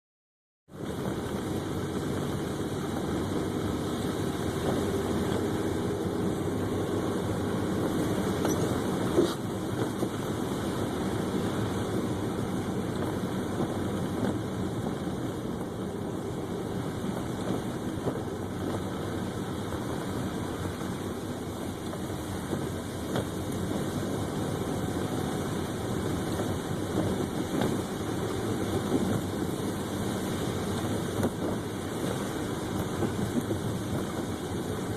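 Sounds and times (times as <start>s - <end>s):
car engine and road noise: 0.7s - 34.9s.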